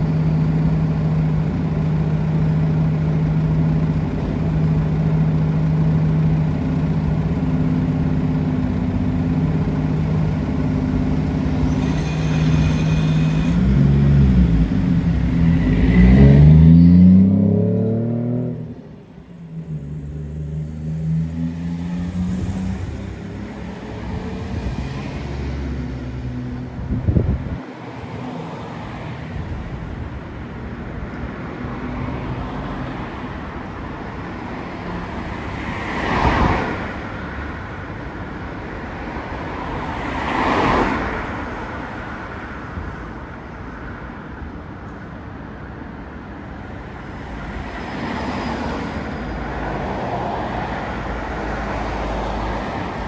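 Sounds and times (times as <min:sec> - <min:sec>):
steady hum of cars: 0:00.0 - 0:53.0
vehicles passing close by: 0:00.0 - 0:53.0.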